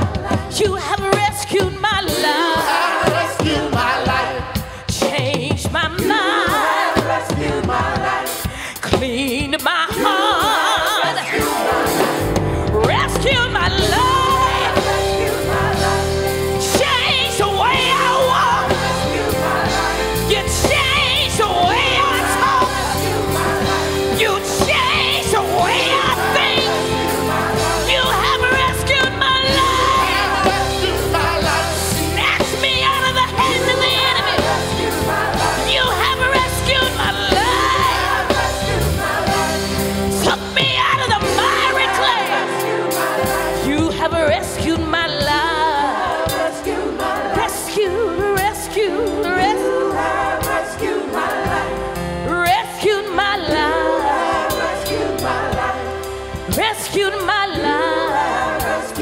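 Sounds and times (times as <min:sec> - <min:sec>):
band accompaniment with deep bass: 0:00.0 - 0:59.0
gospel singing: 0:00.0 - 0:59.0.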